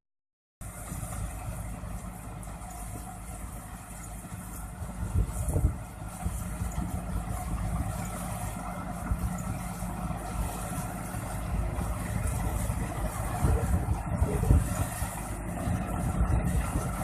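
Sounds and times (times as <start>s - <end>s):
combine harvester engine rumbling: 0.6s - 17.0s.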